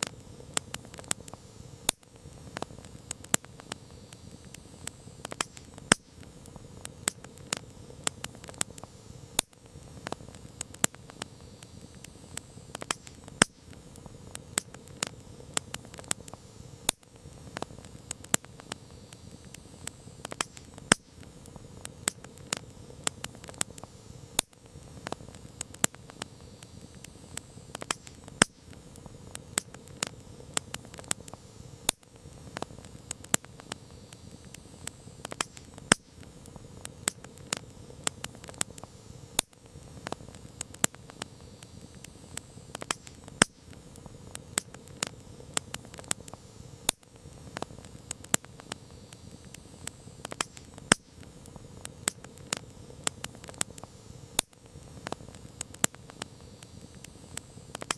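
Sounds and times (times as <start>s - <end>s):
campfire crackling: 0.0s - 57.9s
fire hissing: 0.0s - 57.9s.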